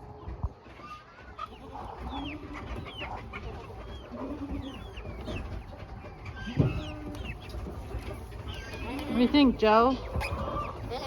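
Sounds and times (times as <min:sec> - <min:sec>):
chicks peeping: 0:00.0 - 0:11.0
low clucks: 0:00.2 - 0:11.0.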